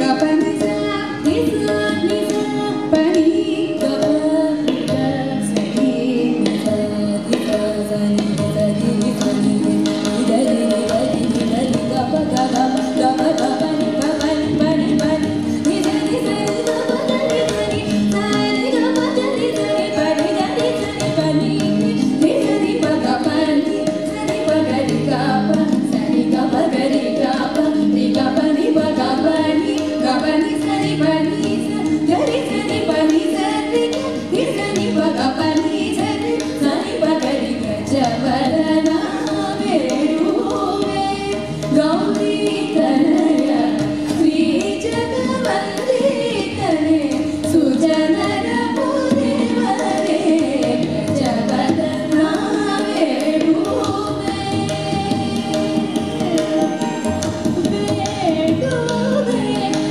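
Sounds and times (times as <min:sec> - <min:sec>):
tabla: 0:00.0 - 0:59.9
women singing together: 0:00.0 - 0:59.9.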